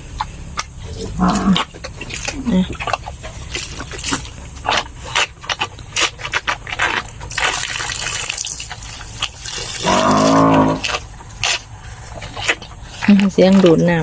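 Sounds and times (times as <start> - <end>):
pigs slurping water: 0.0 - 14.0.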